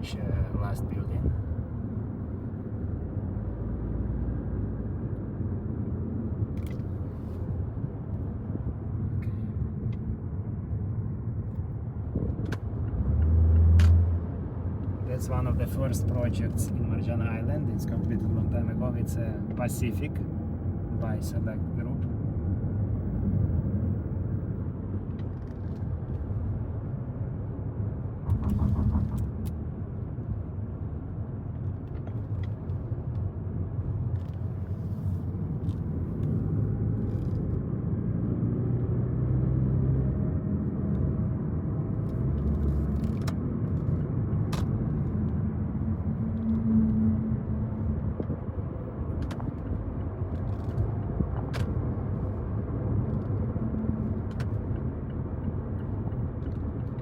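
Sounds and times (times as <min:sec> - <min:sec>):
car driving engine and road noise: 0:00.0 - 0:57.0.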